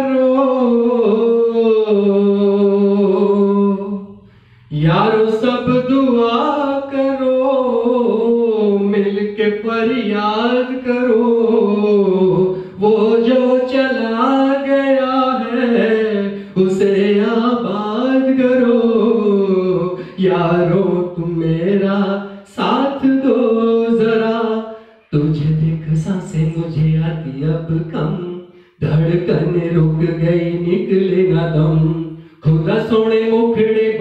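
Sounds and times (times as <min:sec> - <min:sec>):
man singing: 0:00.0 - 0:34.0.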